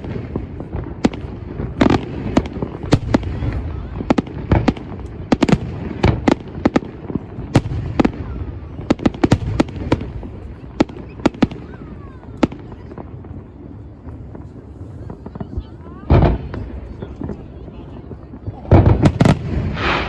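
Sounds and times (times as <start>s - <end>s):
fireworks bangs and cracks: 0.0s - 20.0s.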